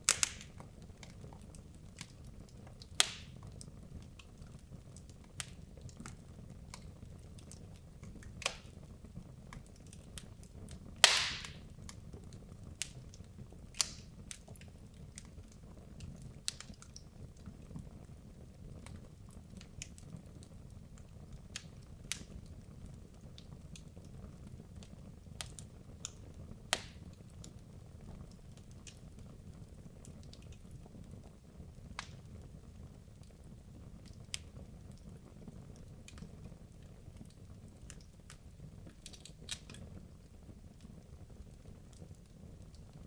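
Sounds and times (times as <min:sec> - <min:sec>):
low rumble of flames: 0:00.0 - 0:43.0
wood fire crackling and popping: 0:00.0 - 0:43.0.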